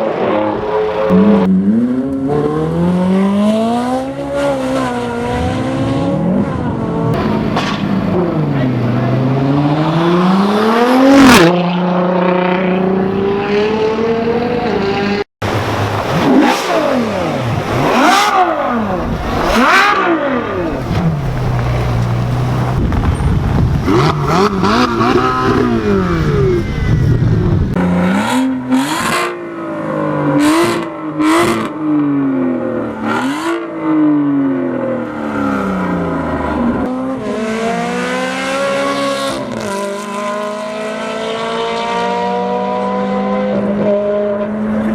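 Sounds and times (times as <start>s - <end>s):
supercar engines revving: 0.0s - 44.9s.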